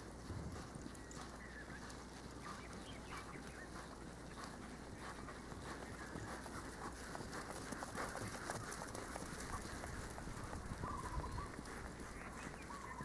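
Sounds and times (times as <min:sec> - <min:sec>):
low outdoor hum: 0:00.0 - 0:13.0
small birds chirping: 0:00.1 - 0:13.0.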